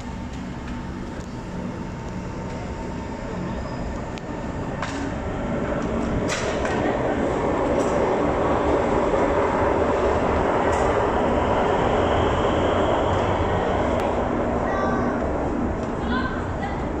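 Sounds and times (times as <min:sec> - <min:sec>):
electric train running past: 0:00.0 - 0:17.0.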